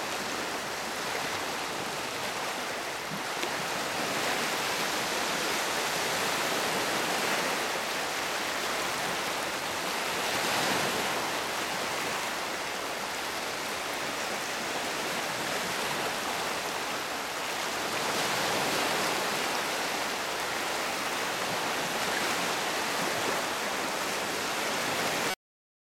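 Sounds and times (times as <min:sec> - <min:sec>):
lake waves washing over rocks: 0:00.0 - 0:25.4.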